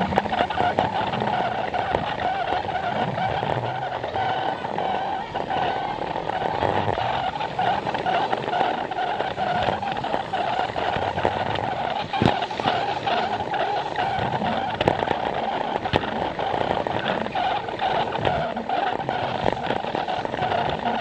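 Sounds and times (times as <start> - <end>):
toy train motor whine: 0.0 - 21.0.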